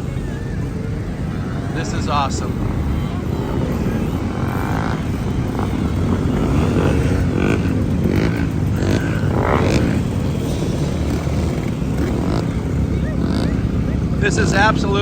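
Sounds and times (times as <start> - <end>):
motorcycles riding past: 0.0 - 15.0.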